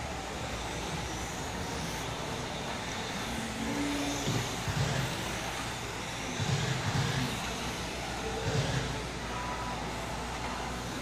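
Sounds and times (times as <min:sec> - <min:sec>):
rc cars whirring past: 0:00.0 - 0:11.0.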